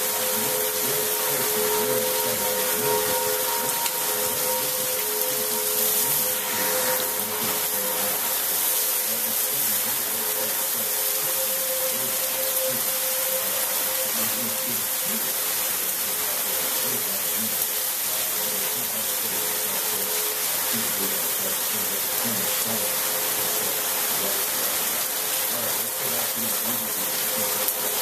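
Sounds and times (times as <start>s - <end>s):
faint steady hum: 0.0s - 28.0s
heavy rain pouring: 0.0s - 28.0s.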